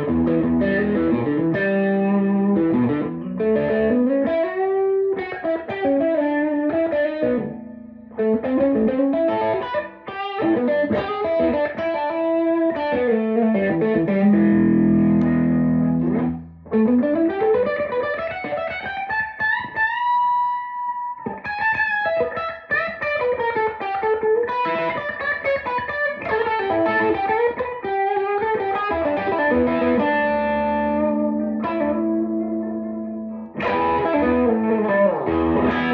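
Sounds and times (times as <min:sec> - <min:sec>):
electric guitar notes and chords: 0:00.0 - 0:35.9.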